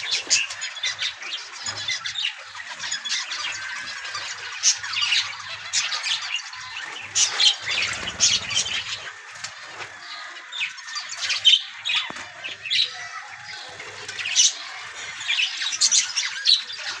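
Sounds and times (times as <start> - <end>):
budgerigars chirping and squawking: 0.0 - 17.0.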